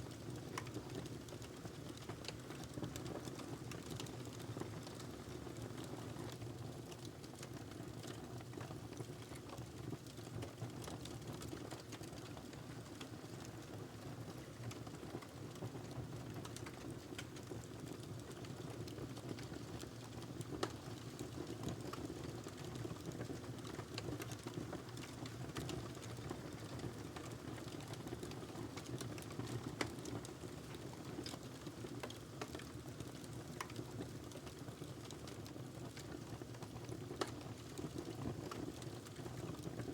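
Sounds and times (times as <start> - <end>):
wood fire crackles and pops: 0.0 - 39.9.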